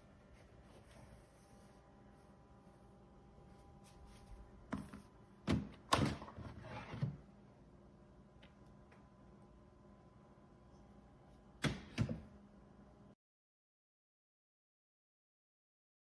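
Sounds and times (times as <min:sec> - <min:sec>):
faint steady hum: 0:00.0 - 0:13.2.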